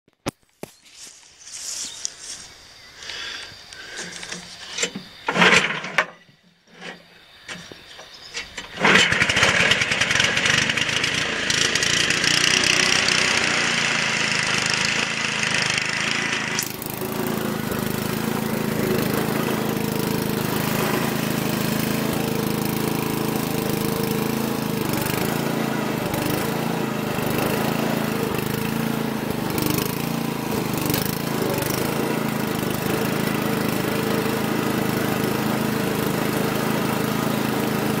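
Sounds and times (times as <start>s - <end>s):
ride-on mower engine running: 3.1s - 6.1s, 6.8s - 38.0s.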